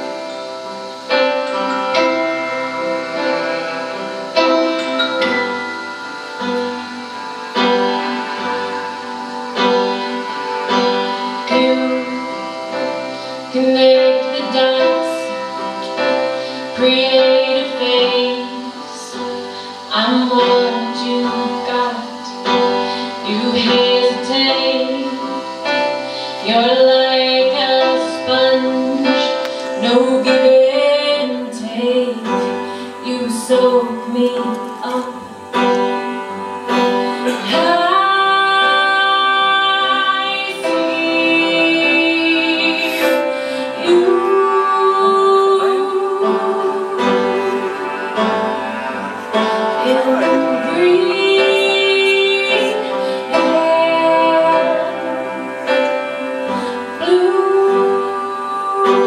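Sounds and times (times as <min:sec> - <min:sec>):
keyboard: 0:00.0 - 0:59.0
woman singing: 0:00.0 - 0:59.0.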